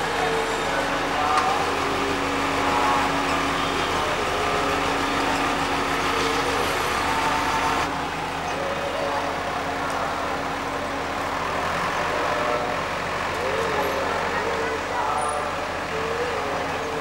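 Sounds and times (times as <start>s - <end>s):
background voices: 0.0s - 17.0s
heavy diesel engine running: 0.0s - 17.0s.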